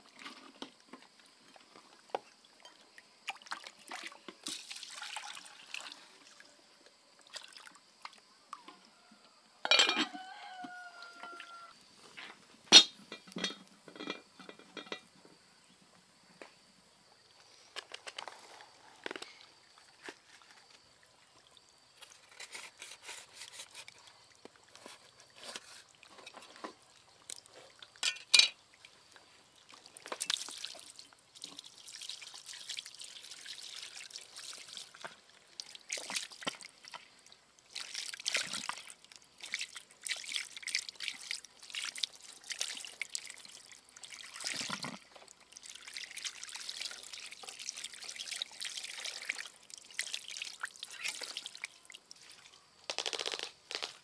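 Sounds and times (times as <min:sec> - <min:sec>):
water splashing and trickling: 0:00.0 - 0:09.2, 0:10.1 - 0:11.7, 0:19.0 - 0:53.9.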